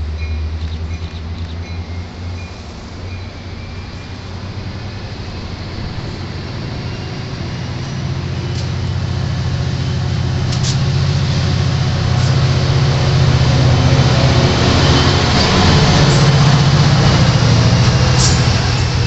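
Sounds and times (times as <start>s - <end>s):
diesel locomotive engine drone: 0.0s - 19.0s.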